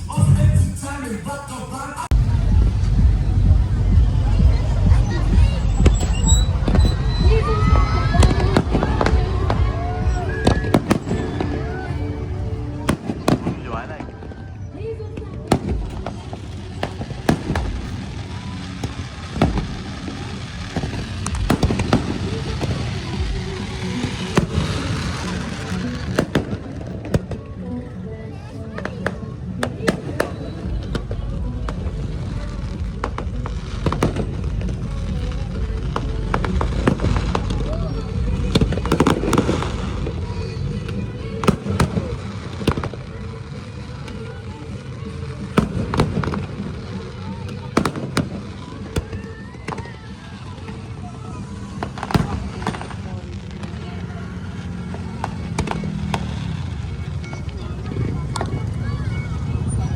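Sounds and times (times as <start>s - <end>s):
fireworks bangs: 0.0s - 27.6s, 28.4s - 59.9s
background music: 0.0s - 59.9s
fireworks pops and crackles: 2.1s - 12.0s, 12.6s - 27.7s, 28.4s - 59.9s.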